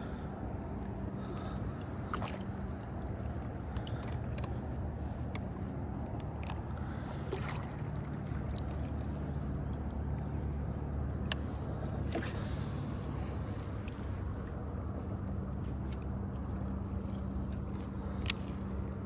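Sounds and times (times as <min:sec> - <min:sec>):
boat motor humming: 0:00.0 - 0:19.0
water splashes: 0:01.0 - 0:05.2, 0:06.3 - 0:18.9.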